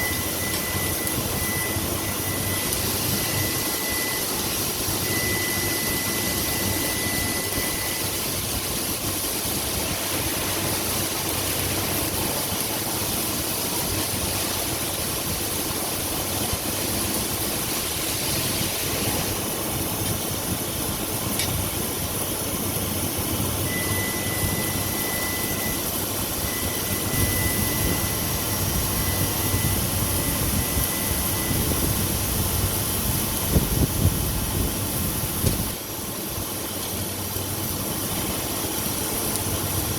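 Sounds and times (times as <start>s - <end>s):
arc welding running noise: 0.0s - 39.9s.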